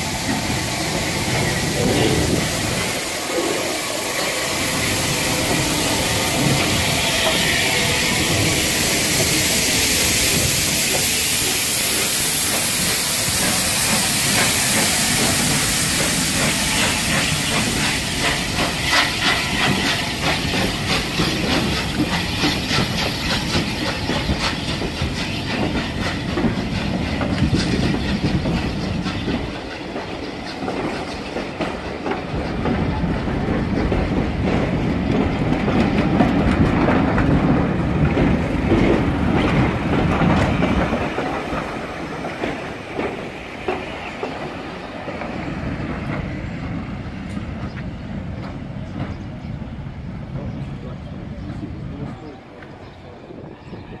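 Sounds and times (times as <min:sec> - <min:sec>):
coach wheels clattering over rail joints: 0:00.0 - 0:53.9
steam locomotive hissing steam: 0:00.0 - 0:54.0.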